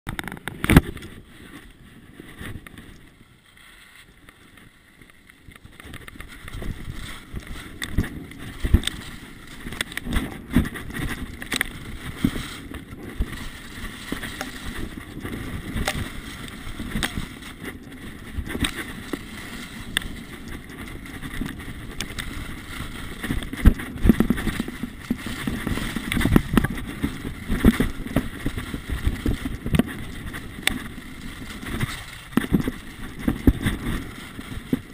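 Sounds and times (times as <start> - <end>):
skis scraping over packed snow: 0.1 - 34.9
wind on microphone: 4.1 - 34.9.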